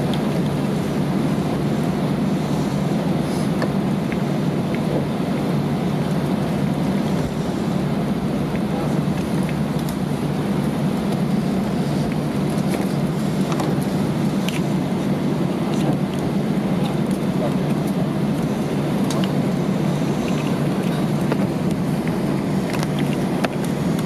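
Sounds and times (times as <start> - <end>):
cabin air rumbling: 0.0 - 24.0
jet engines idling: 0.0 - 24.0.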